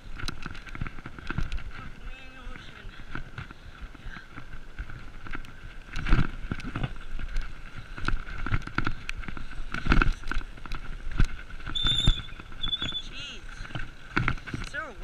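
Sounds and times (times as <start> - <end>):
bike chain and frame rattling: 0.0 - 15.0
tyres crunching on dirt: 0.0 - 15.0.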